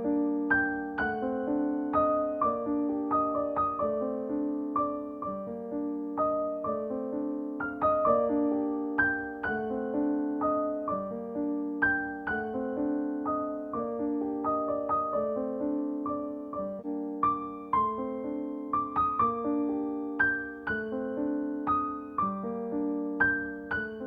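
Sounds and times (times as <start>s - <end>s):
gentle piano melody: 0.0s - 24.0s.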